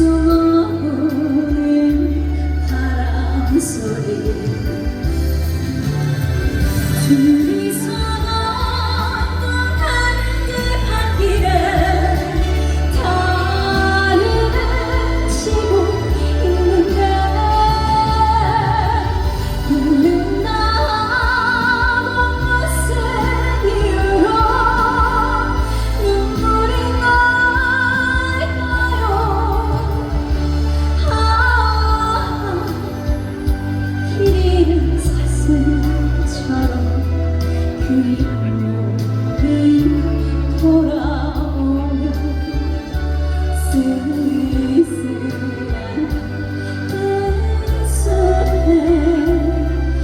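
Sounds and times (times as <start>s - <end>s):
backing music with bass line: 0.0s - 50.0s
woman singing a ballad: 0.0s - 50.0s.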